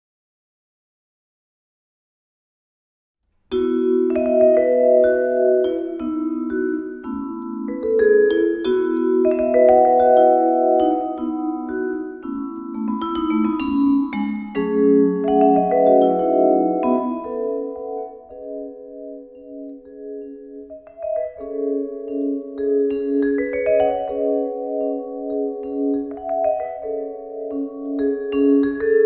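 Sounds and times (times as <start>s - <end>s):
vibraphone playing: 3.5s - 29.0s.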